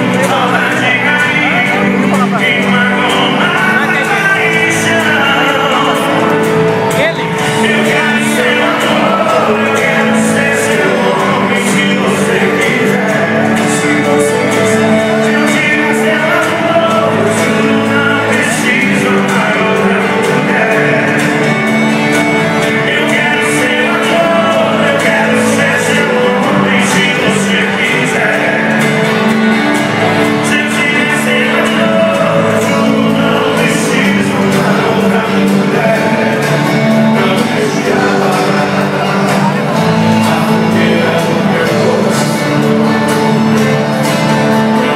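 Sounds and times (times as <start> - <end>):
live country band with singing: 0.0 - 44.9.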